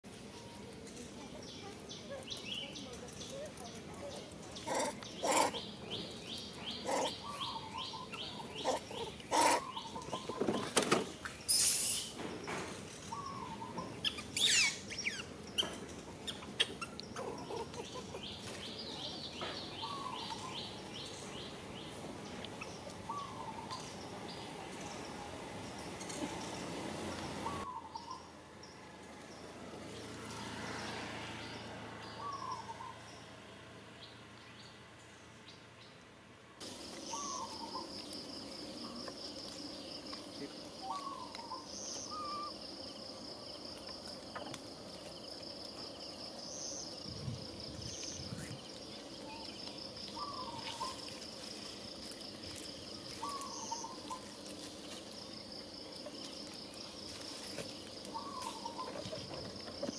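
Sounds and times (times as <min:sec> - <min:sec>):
birds chirping and trilling: 0:00.1 - 0:59.9.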